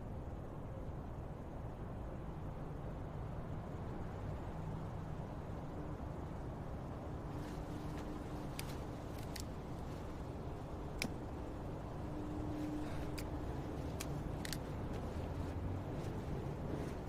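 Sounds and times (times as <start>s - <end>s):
low ambient rumble: 0.0s - 17.0s.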